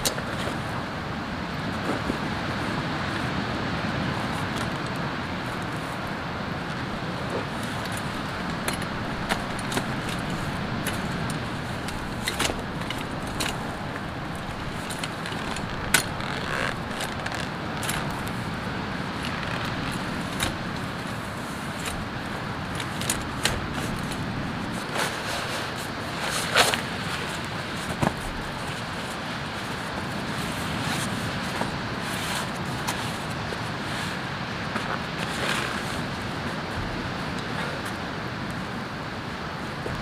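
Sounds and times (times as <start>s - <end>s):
steady rushing background noise: 0.0s - 40.0s.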